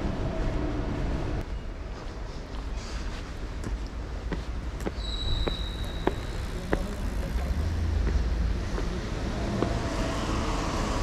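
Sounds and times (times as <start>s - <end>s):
city traffic rumbling: 0.0s - 11.0s.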